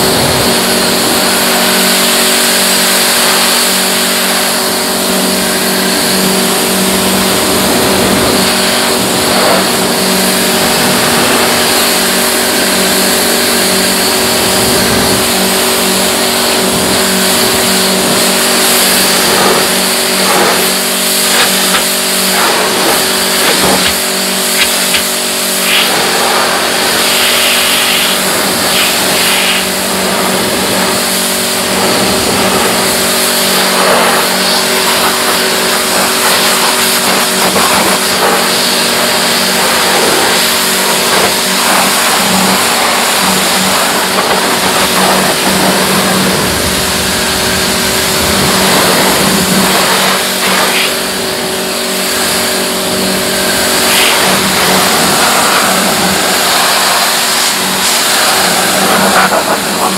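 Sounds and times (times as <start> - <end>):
pressure washer motor running: 0.0 - 59.9
water spray hissing: 0.2 - 59.9.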